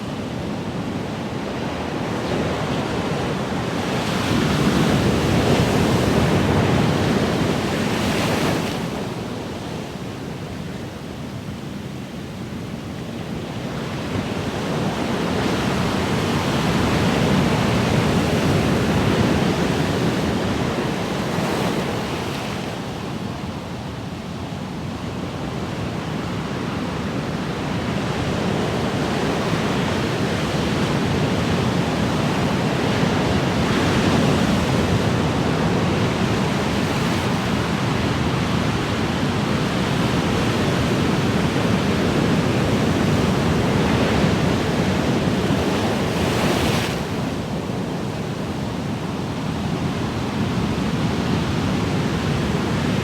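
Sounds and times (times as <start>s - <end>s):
ocean waves breaking on shore: 0.1s - 53.0s.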